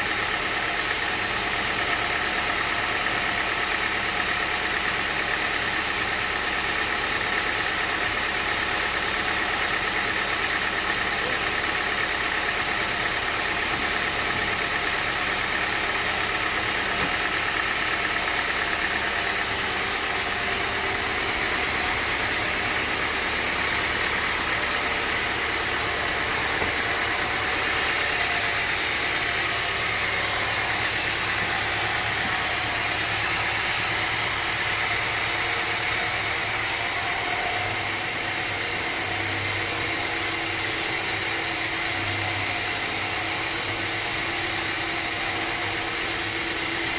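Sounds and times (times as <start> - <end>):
sawmill machinery drone: 0.0 - 46.9.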